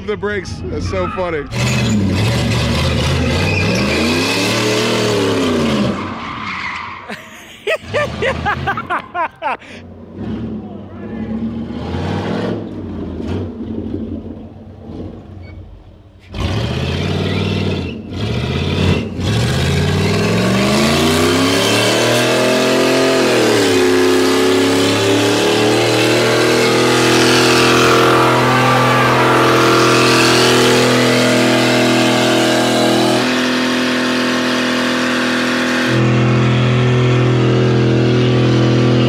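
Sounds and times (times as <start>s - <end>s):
car engine revving: 1.5s - 6.2s, 9.8s - 15.4s, 16.2s - 39.0s
tires spinning: 1.5s - 7.1s, 9.8s - 39.0s.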